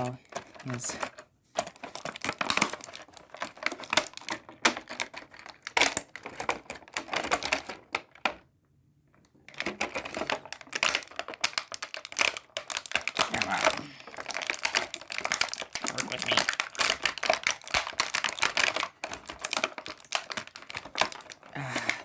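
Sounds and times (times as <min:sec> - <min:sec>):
hard plastic packaging crackling: 0:00.0 - 0:08.5, 0:09.1 - 0:22.0.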